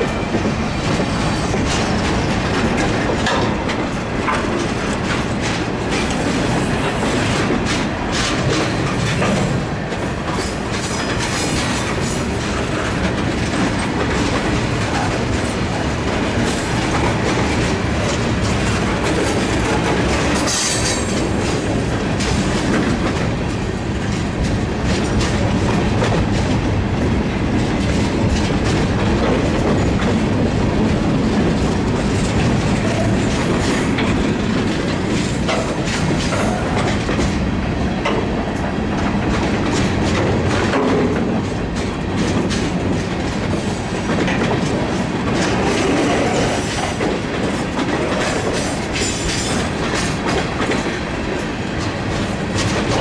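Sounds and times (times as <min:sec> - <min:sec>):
steel wheels rumbling on rails: 0:00.0 - 0:53.0
wheels clacking over rail joints: 0:00.0 - 0:53.0.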